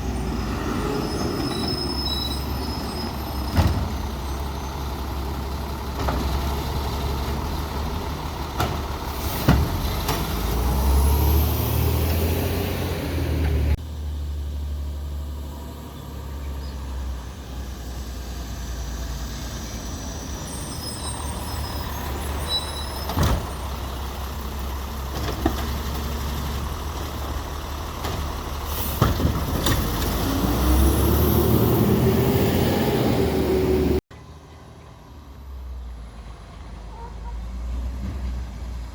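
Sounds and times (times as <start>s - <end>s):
diesel engine running and revving: 0.0s - 34.0s.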